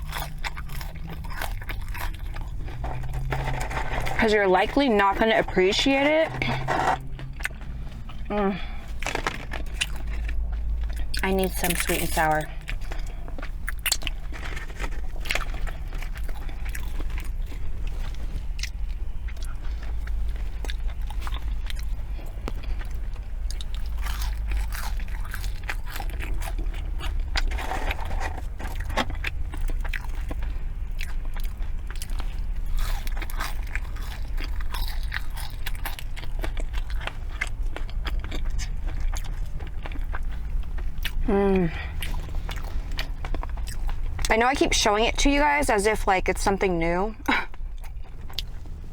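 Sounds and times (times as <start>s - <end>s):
person biting and chewing: 0.0s - 4.2s, 6.2s - 44.3s.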